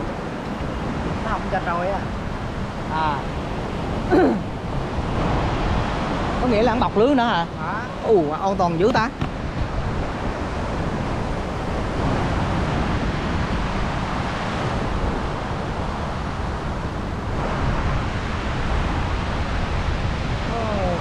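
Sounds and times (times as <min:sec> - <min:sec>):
sea surf on a beach: 0:00.0 - 0:21.0
wind rumbling on microphone: 0:00.0 - 0:21.0.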